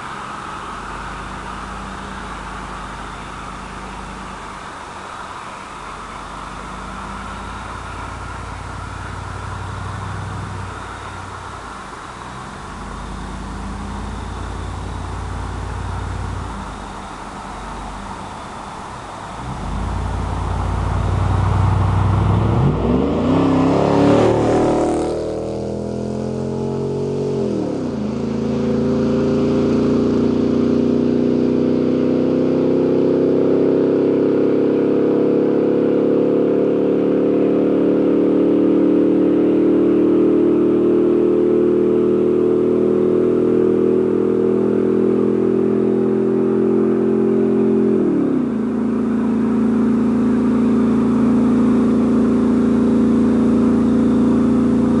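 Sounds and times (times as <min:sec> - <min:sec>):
truck engine revving: 0:06.2 - 0:37.4, 0:38.7 - 0:55.0.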